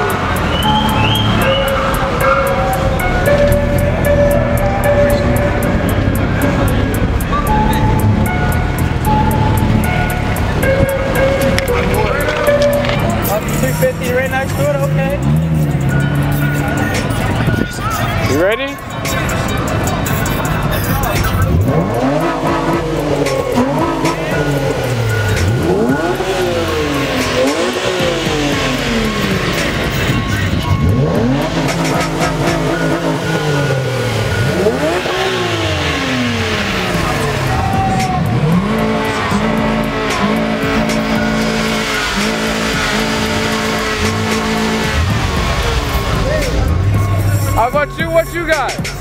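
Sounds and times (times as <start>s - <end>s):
sports car engine revving: 0.0s - 49.0s.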